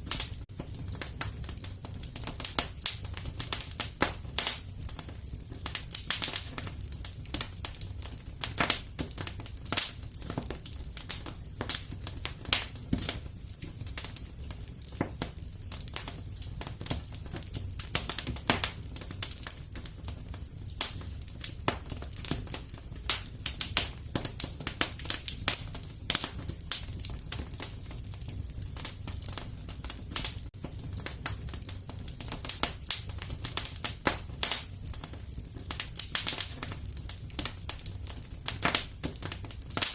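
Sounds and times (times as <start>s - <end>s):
fireplace crackling: 0.0s - 39.9s
low rumble of fire: 0.0s - 39.9s.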